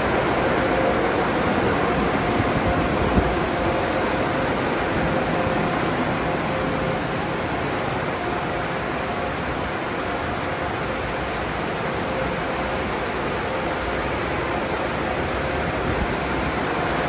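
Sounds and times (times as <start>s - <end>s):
car wash machinery rushing: 0.0s - 17.0s.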